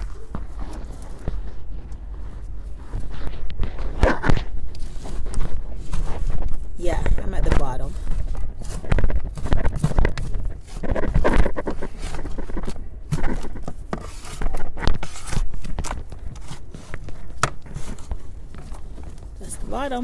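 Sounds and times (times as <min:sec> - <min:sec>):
digging in potting soil: 0:00.0 - 0:20.0.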